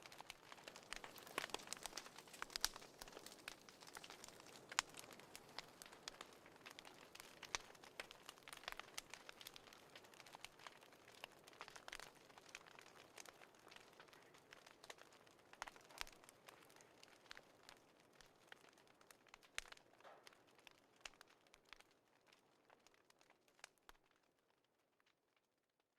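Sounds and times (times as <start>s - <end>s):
wood fire crackling: 0.0s - 25.4s.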